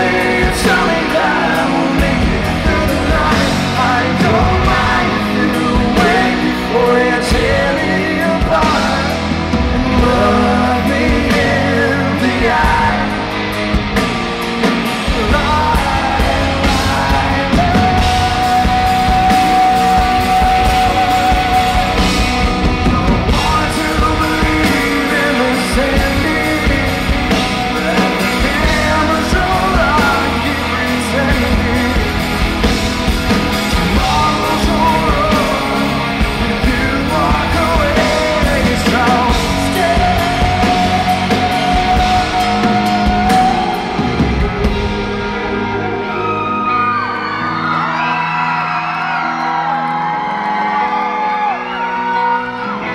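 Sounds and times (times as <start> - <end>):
man singing: 0.0 - 47.0
rock band playing: 0.0 - 52.9.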